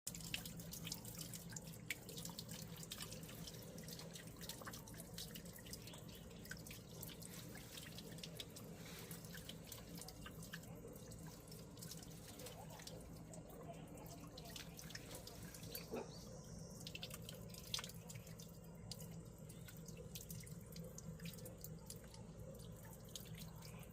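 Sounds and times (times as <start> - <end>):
low steady hum: 0.1 - 23.9
water dripping and trickling: 0.1 - 23.9.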